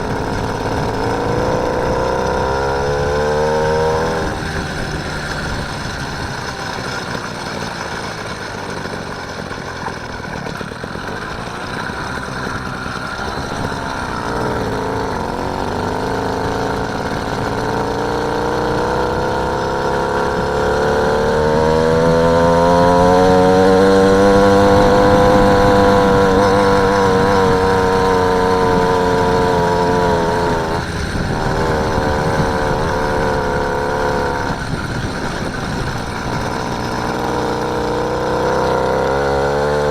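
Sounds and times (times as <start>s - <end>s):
motorised bicycle engine running: 0.0s - 39.9s.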